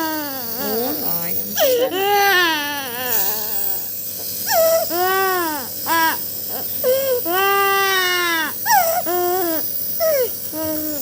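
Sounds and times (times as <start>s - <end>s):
baby crying: 0.0s - 0.7s, 1.6s - 3.9s, 4.5s - 11.0s.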